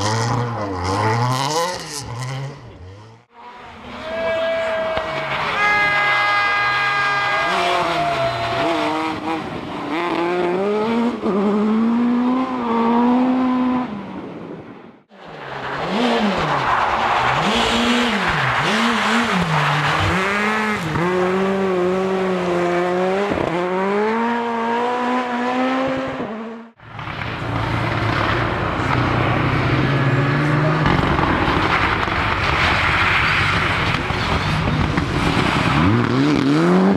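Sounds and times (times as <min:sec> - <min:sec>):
rally car engines revving: 0:00.0 - 0:14.6, 0:15.2 - 0:36.9.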